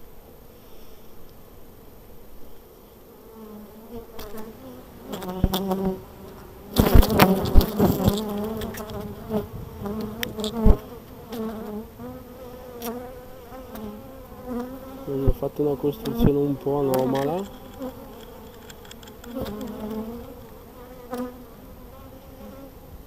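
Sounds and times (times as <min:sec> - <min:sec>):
honey bees buzzing: 0:00.0 - 0:23.0.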